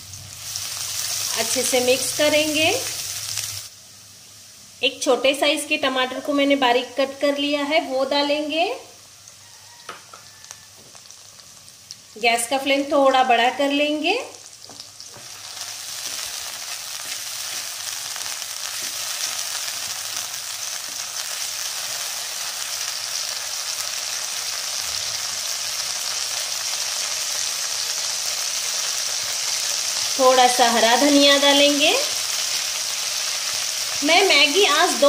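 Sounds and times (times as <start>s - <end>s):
vegetables sizzling in hot oil: 0.0s - 35.0s.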